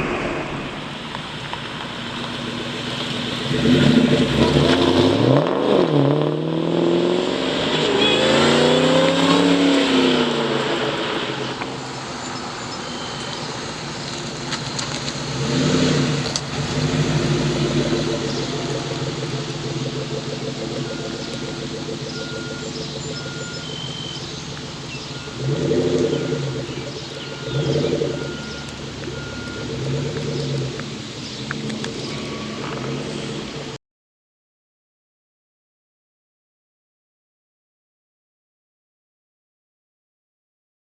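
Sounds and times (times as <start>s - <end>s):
car engine revving: 0.0s - 33.8s.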